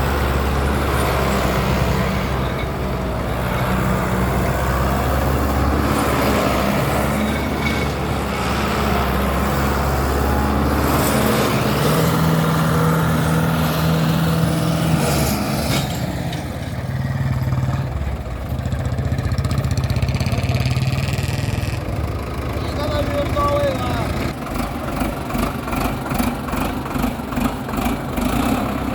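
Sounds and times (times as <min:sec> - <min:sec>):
diesel tractor engine running: 0:00.0 - 0:28.9.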